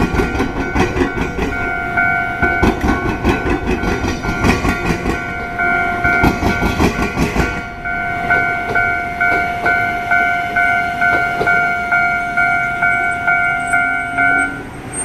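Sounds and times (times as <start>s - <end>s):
level crossing bell ringing: 0.0s - 14.7s
wheels clattering over rail crossing: 0.0s - 15.0s.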